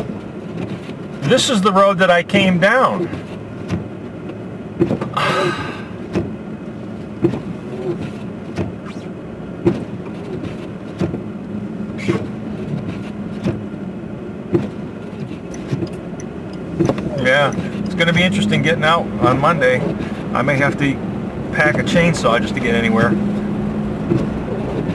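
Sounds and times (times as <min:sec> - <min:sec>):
car engine and road drone: 0:00.0 - 0:24.9.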